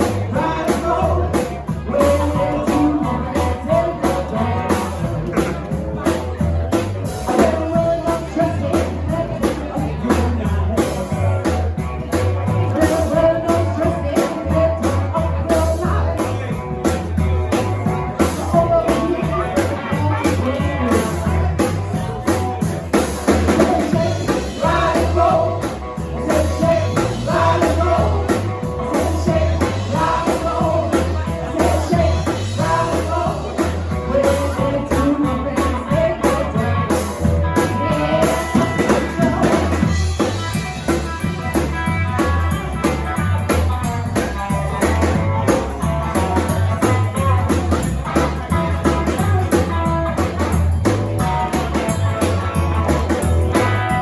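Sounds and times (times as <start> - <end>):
person singing: 0.0 - 54.0
rock and roll band playing: 0.0 - 54.0.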